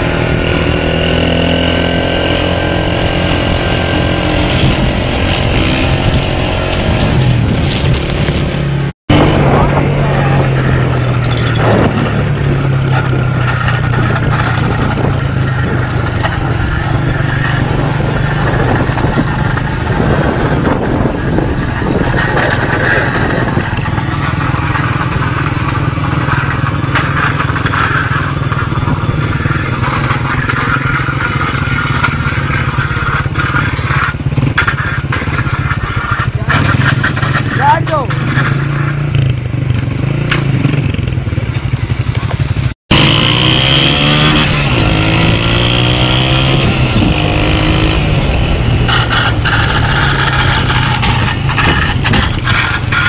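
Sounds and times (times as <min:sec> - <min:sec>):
small motorcycle engine running: 0:00.0 - 0:53.0.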